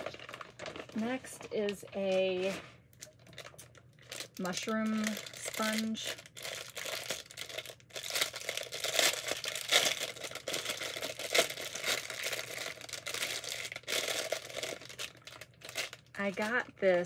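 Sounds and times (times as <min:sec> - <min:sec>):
packaging crinkling: 0:00.0 - 0:16.8.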